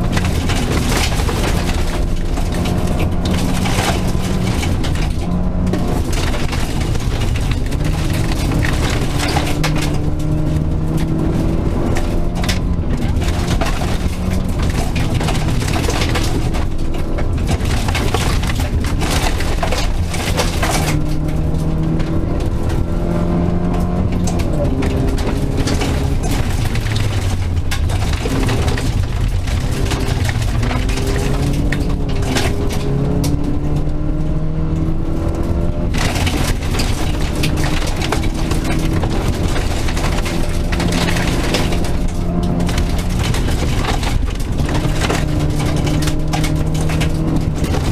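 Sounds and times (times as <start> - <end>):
gravel rattling against car underside: 0.0 - 47.9
rally car engine revving: 0.0 - 47.9.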